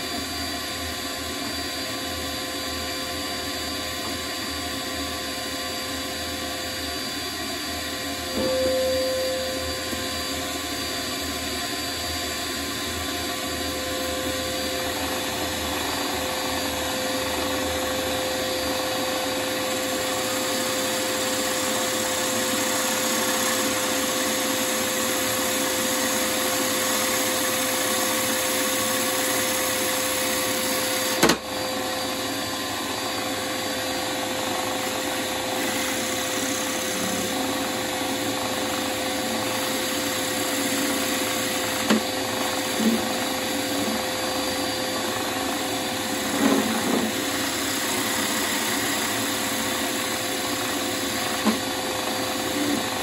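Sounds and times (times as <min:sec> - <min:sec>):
wood lathe motor hum: 0:06.0 - 0:53.0.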